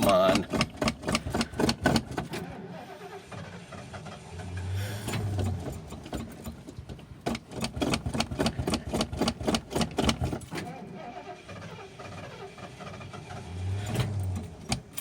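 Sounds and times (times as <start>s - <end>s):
engine starter cranking: 0.0s - 15.0s.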